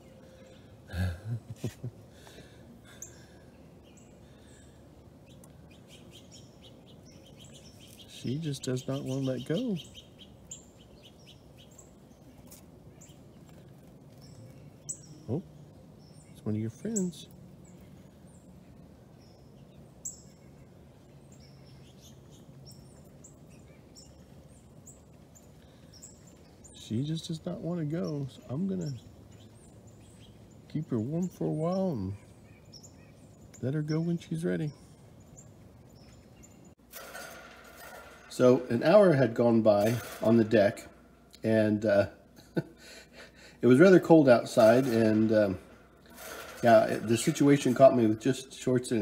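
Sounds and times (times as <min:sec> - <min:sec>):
faint outdoor hiss: 0:00.0 - 0:49.0
songbirds chirping: 0:00.0 - 0:49.0.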